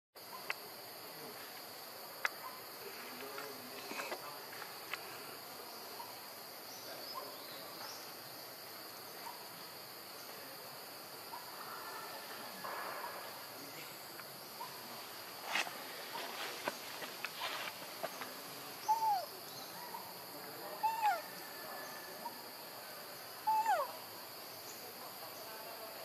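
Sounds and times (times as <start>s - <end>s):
insects chirring: 0.2s - 26.0s.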